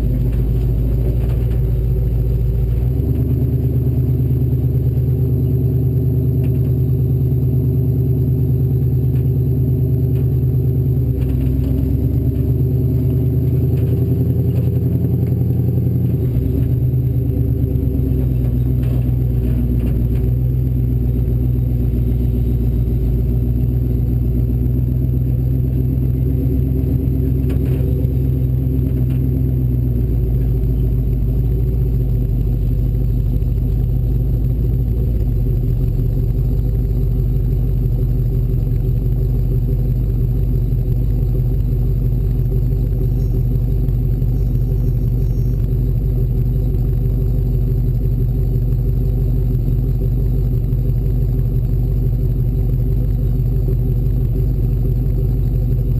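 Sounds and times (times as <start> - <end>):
engine running with low rumble: 0.0 - 55.9.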